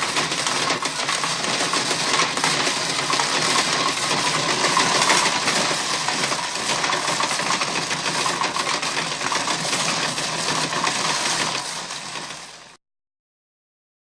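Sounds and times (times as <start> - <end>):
coins clattering into tray: 0.0 - 12.7.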